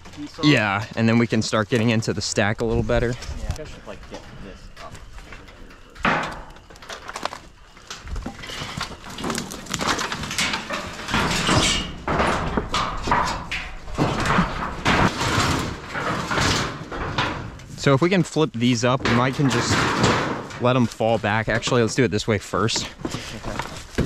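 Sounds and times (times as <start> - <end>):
tin sheets scraping and rattling: 3.1 - 18.0, 18.6 - 24.0.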